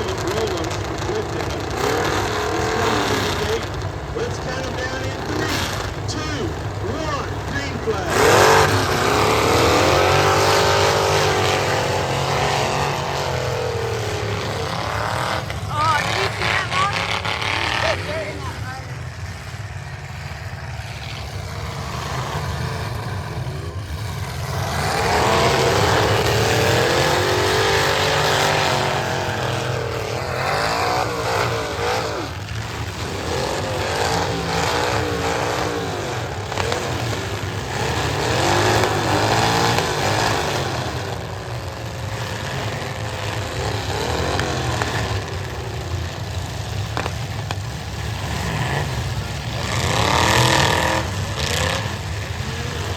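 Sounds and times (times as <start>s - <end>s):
car engines revving hard: 0.0s - 52.9s.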